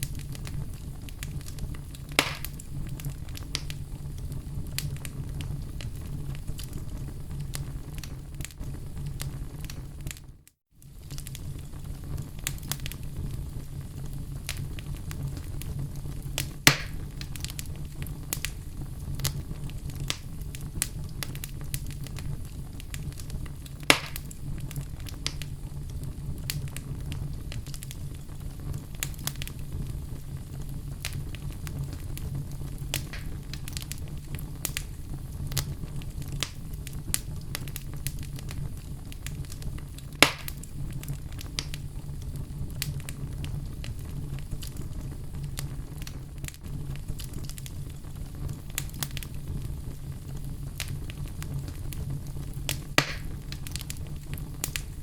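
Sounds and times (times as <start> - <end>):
burning logs rumbling: 0.0 - 55.0
fire snapping and popping: 0.0 - 55.0.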